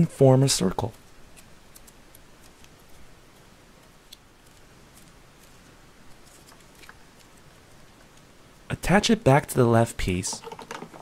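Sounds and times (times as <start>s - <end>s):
soft handling of modeling clay: 0.0s - 9.2s.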